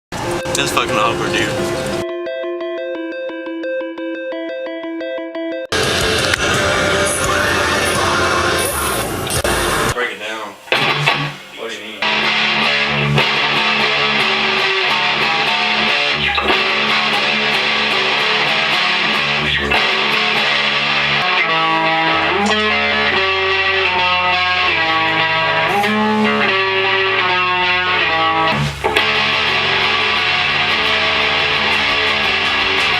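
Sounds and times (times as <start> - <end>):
rock music with electric guitar: 0.2 - 10.0, 10.6 - 32.9.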